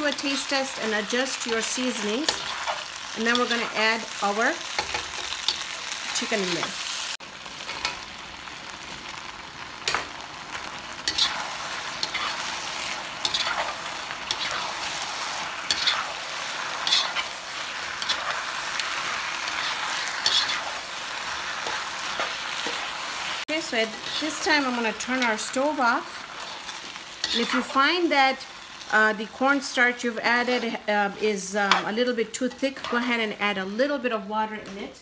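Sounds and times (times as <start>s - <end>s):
metal spoon scraping a pan: 0.0s - 6.9s, 11.0s - 25.6s, 26.2s - 33.4s
food sizzling in a wok: 0.0s - 34.6s.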